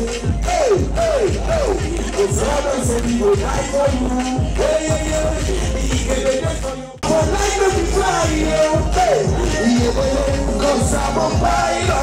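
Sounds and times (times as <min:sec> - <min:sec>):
pop song with sung vocals: 0:00.0 - 0:12.0.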